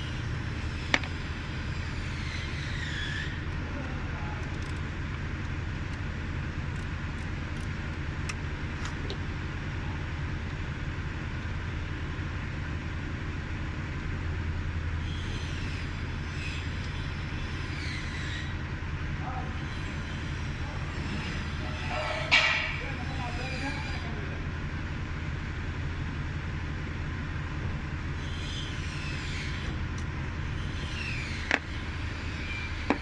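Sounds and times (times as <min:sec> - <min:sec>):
car engine idling with misfire: 0:00.0 - 0:33.0.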